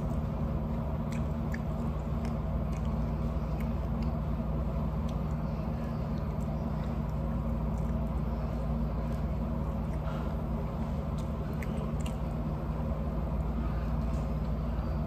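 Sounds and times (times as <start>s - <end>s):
faint chewing clicks: 0.0s - 14.6s
low machine hum: 0.0s - 15.0s.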